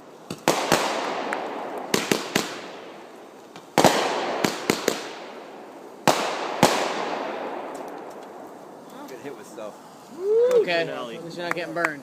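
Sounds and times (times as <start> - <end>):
fireworks bangs: 0.0 - 10.1.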